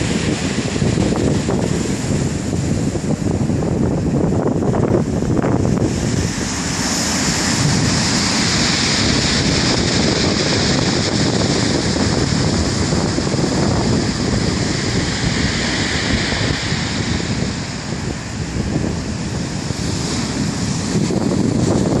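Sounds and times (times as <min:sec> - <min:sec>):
sea waves washing on shore: 0:00.0 - 0:22.0
wind rumbling on microphone: 0:00.0 - 0:22.0.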